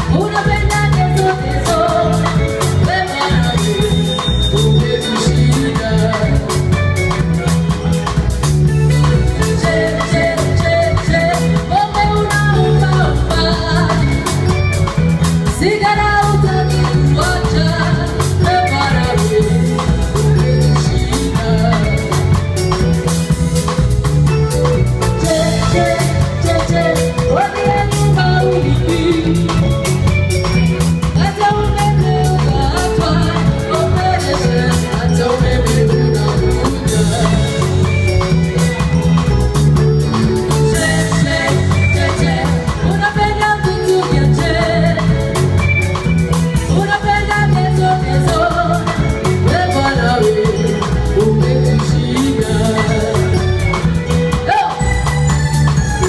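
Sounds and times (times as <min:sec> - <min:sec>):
woman singing into a microphone: 0:00.0 - 0:07.4, 0:08.8 - 0:23.0, 0:25.0 - 0:38.5, 0:40.6 - 0:55.4
drum kit heavy beat: 0:00.0 - 0:56.0
electric guitar: 0:00.0 - 0:56.0.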